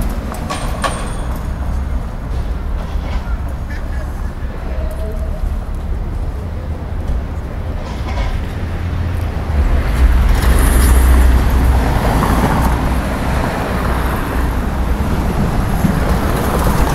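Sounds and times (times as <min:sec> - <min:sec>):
city road traffic: 0:00.0 - 0:16.9
vehicle passing: 0:01.6 - 0:16.9.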